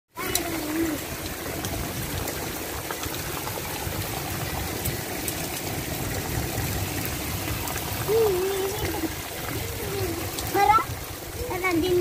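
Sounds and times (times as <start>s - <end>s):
heavy rain on dirt: 0.1s - 12.0s
faint ticks of raindrops: 0.2s - 12.0s.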